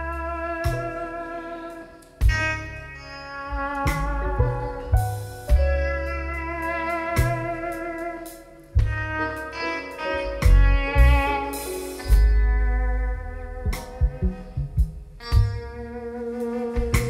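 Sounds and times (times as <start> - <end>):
blues-rock band playing: 0.0 - 17.0.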